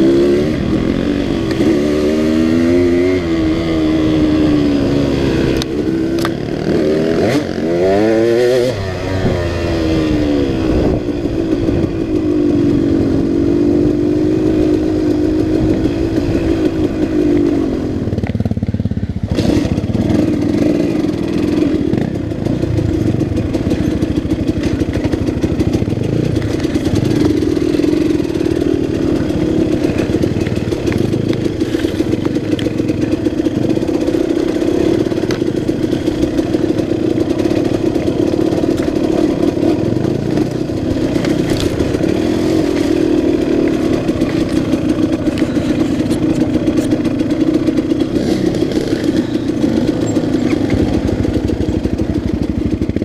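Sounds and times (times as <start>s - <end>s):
two-stroke motorcycle engine: 0.0s - 53.0s.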